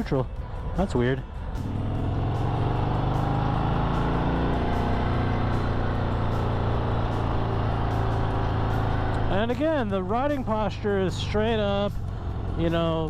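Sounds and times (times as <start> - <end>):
motorcycle engine running: 1.2 - 13.0.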